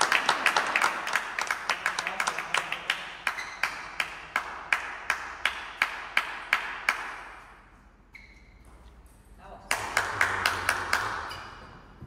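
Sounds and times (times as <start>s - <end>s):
hand clapping echoing: 0.0s - 7.8s, 9.6s - 11.9s.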